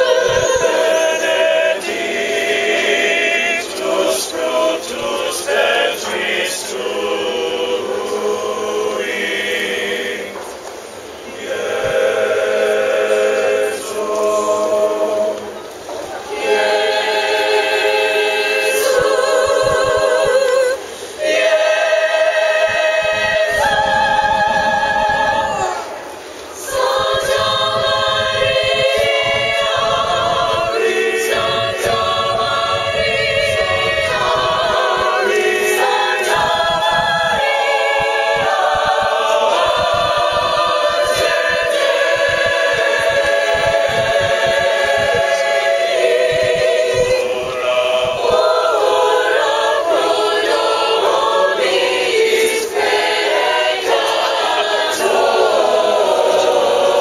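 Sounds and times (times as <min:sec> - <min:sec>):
choir singing a cappella: 0:00.0 - 0:57.0.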